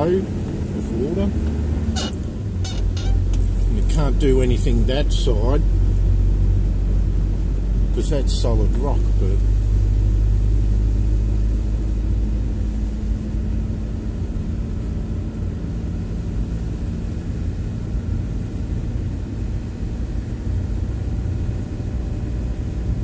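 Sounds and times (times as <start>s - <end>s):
engine and road rumble: 0.0s - 23.0s.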